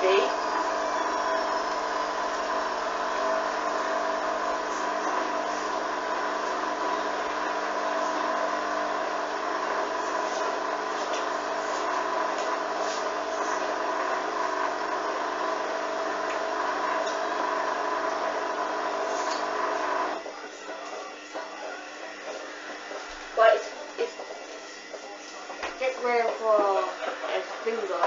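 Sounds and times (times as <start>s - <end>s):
washing machine motor whining: 0.0s - 28.0s.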